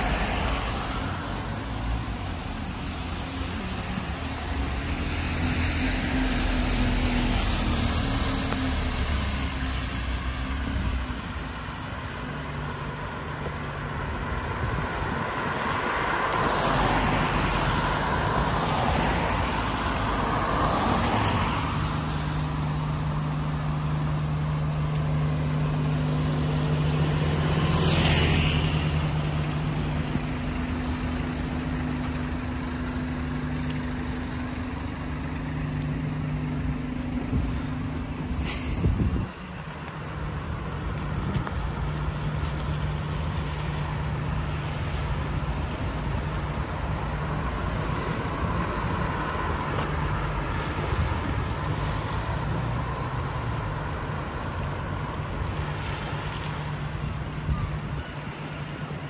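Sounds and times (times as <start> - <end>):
engine hum: 0.0 - 59.0
vehicles swishing past on wet road: 0.0 - 59.0.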